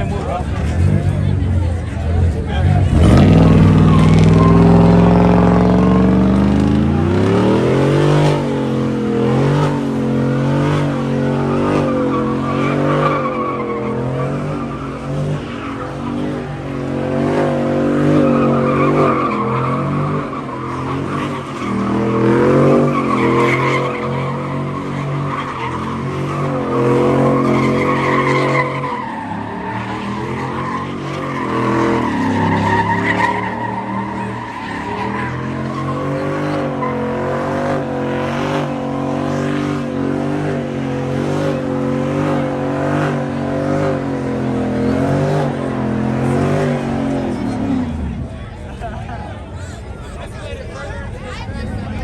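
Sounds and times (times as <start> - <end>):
car engine revving: 0.0 - 52.0
tires squealing: 0.0 - 52.0.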